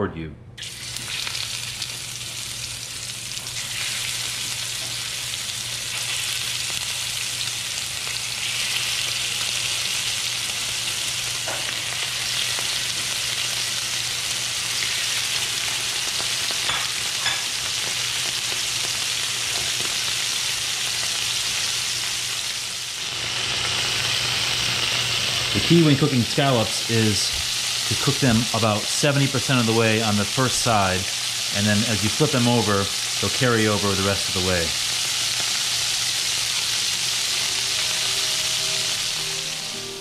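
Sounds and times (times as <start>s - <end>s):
scallops sizzling in hot oil: 0.6s - 39.8s.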